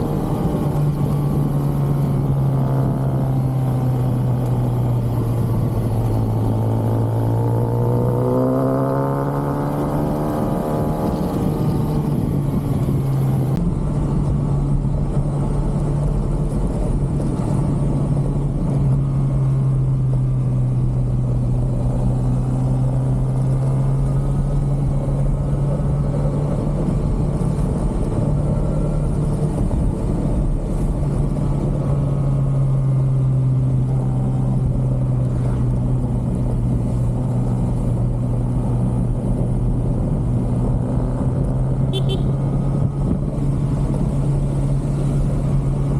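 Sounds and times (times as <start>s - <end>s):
motorcycle engine cruising: 0.0s - 45.9s
wind and road noise: 0.0s - 45.9s.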